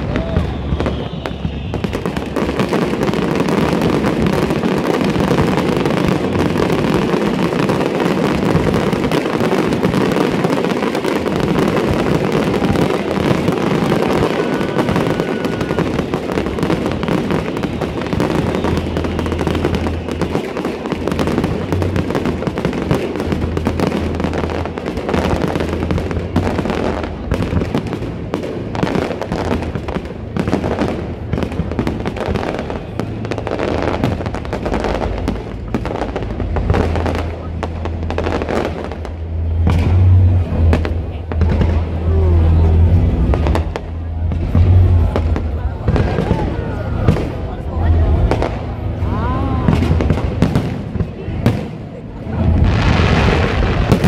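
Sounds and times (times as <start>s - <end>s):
fireworks bangs and crackle: 0.0s - 54.0s.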